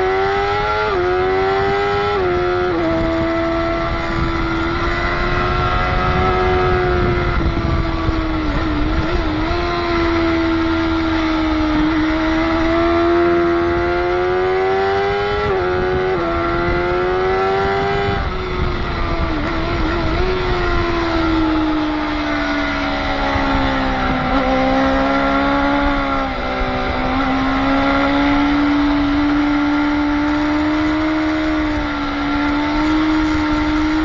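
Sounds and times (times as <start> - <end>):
motorcycle engine at high revs: 0.0 - 34.0
wind rush on microphone: 0.0 - 34.0.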